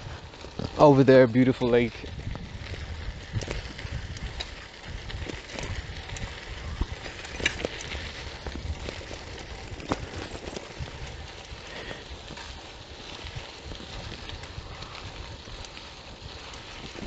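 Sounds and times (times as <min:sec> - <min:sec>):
bicycle rattles and knocks: 0:00.0 - 0:17.0
bicycle tyres crunching on grit: 0:00.0 - 0:17.0.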